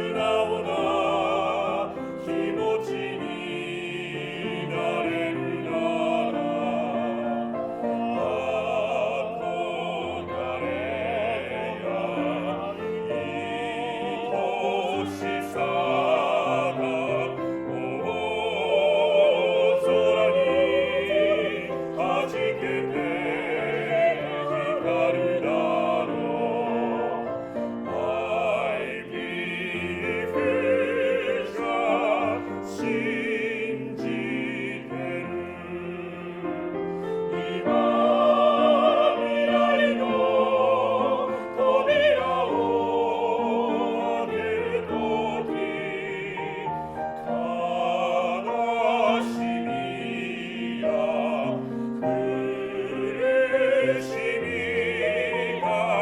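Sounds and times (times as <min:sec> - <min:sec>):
operatic voices singing: 0:00.0 - 0:56.0
piano accompaniment: 0:00.0 - 0:56.0.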